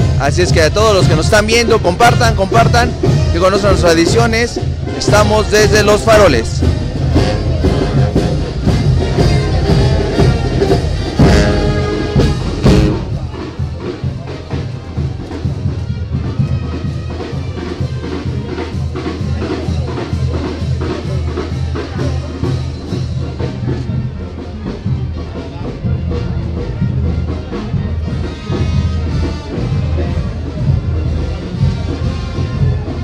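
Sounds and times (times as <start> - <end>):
brass band playing: 0.0 - 33.0
drum beat: 0.0 - 33.0.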